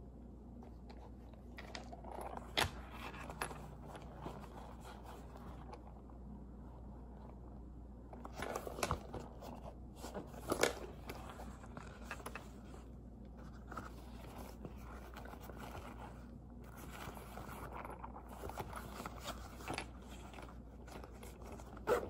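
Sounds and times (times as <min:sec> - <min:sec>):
fabric rustling and scraping: 0:00.6 - 0:06.2, 0:08.2 - 0:22.0.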